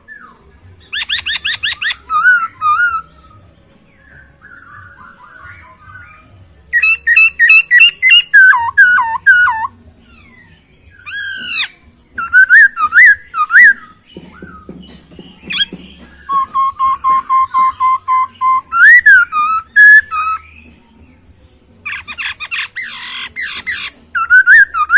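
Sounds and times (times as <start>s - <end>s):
bird singing whistled phrases: 0.1s - 3.4s, 4.0s - 9.7s, 10.9s - 14.7s, 15.4s - 20.7s, 21.9s - 24.9s.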